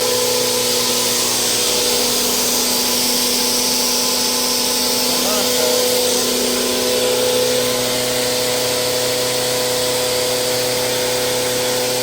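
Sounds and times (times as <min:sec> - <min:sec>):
electric motor hum: 0:00.0 - 0:12.0
grinding machine hissing: 0:00.0 - 0:12.0.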